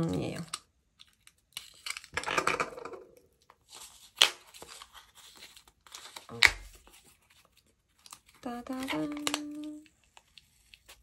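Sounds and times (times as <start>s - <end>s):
packaging tearing and crinkling: 0.0s - 2.2s, 3.5s - 11.0s.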